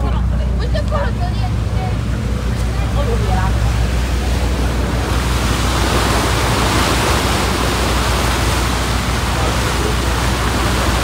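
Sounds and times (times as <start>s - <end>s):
boat engine humming: 0.0s - 11.0s
propeller wash rushing water: 0.0s - 11.0s.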